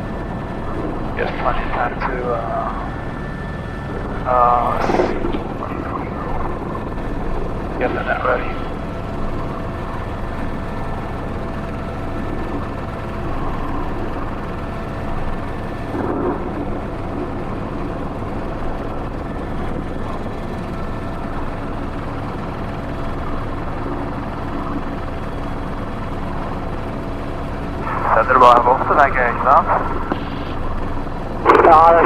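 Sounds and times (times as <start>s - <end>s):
helicopter turbine and rotor noise: 0.0s - 32.0s.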